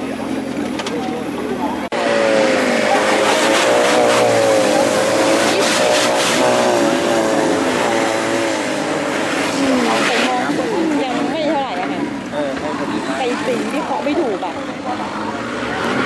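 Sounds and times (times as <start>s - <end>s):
engine running at high revs: 0.0s - 16.0s
water rushing and splashing: 2.4s - 16.0s.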